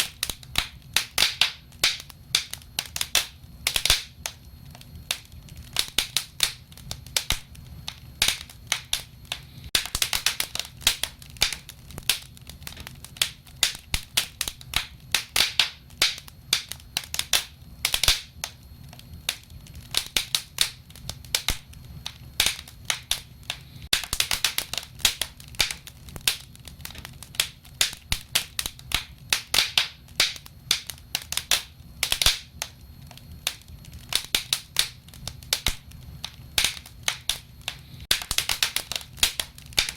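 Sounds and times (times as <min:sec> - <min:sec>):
faint low rumble of flames: 0:00.0 - 0:39.9
fire crackles and pops: 0:00.0 - 0:39.9.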